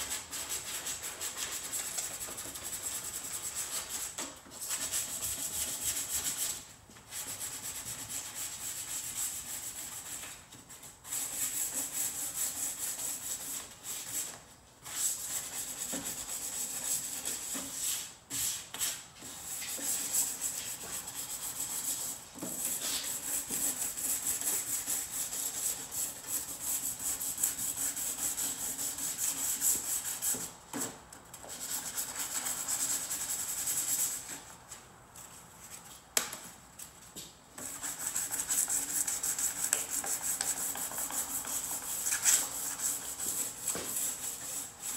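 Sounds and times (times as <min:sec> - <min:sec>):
hand sanding scratchy rubbing: 0:00.0 - 0:30.5, 0:31.5 - 0:34.4, 0:37.6 - 0:44.9.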